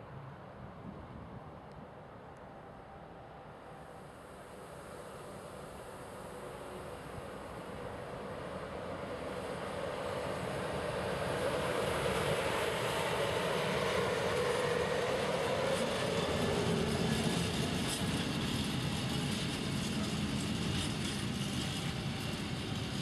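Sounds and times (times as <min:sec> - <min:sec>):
freight train passing: 0:02.0 - 0:23.0.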